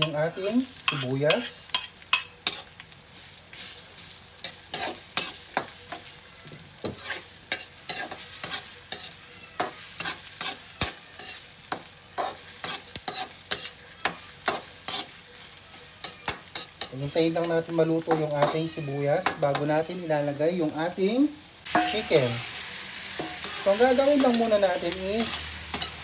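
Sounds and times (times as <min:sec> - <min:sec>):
metal spatula scraping a wok: 0:00.0 - 0:20.2, 0:21.7 - 0:26.0
onions sizzling in oil: 0:00.0 - 0:26.0.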